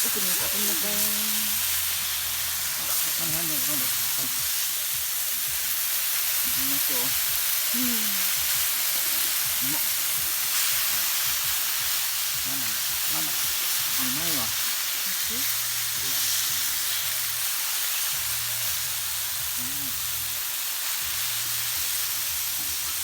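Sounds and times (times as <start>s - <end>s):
meat sizzling on a griddle: 0.0s - 23.0s.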